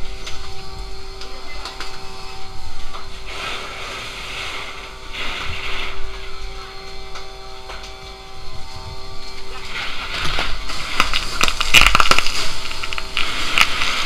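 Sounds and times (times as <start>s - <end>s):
engine running: 0.0s - 14.0s
loud hissing bursts: 2.0s - 14.0s.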